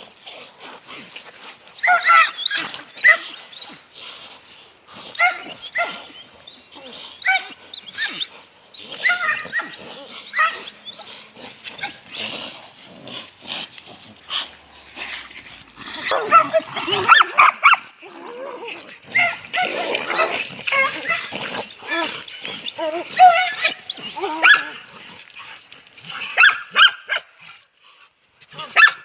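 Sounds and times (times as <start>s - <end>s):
dogs barking and whining: 0.0s - 4.0s, 5.0s - 27.6s, 28.4s - 29.0s.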